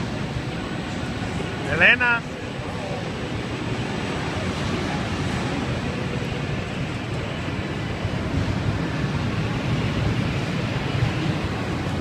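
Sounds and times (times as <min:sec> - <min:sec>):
low rumbling indoor din: 0:00.0 - 0:12.0.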